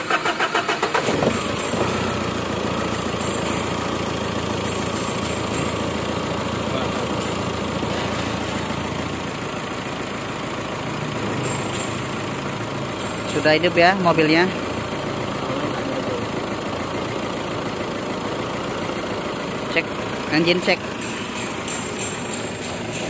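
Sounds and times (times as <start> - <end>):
diesel engine cranking and idling: 0.0 - 23.0.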